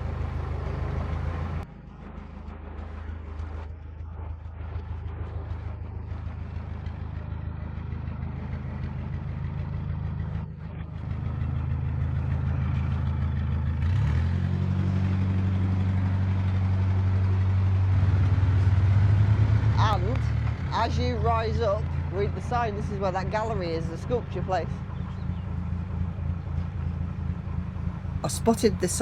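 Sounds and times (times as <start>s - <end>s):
boat diesel engine running: 0.0s - 13.8s, 14.6s - 29.0s.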